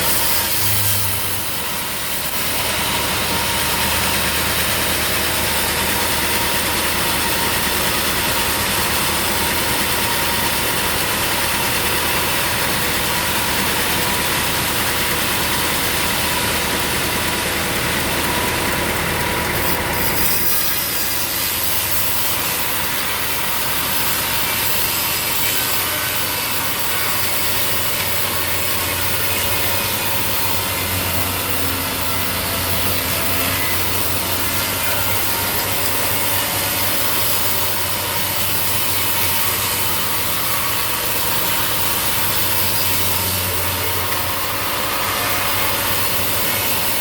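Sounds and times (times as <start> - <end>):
saw blade cutting through log: 0.0 - 47.0.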